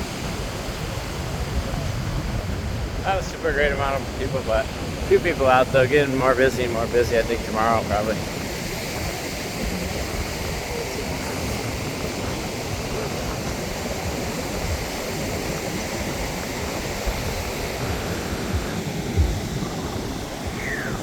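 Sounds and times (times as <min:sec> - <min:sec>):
surf washing: 0:00.0 - 0:21.0
wind buffeting microphone: 0:00.0 - 0:21.0.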